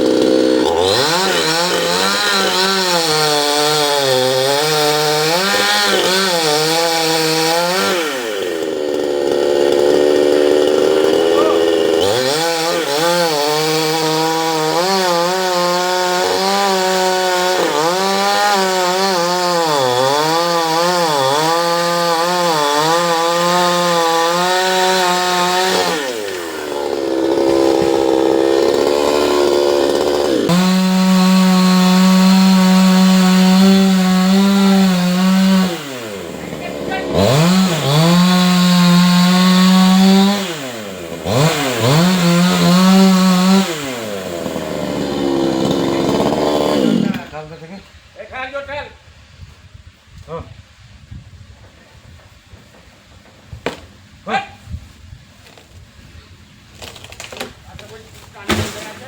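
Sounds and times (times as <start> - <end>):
chainsaw cutting wood: 0.0 - 47.5, 52.6 - 54.0, 56.7 - 59.0.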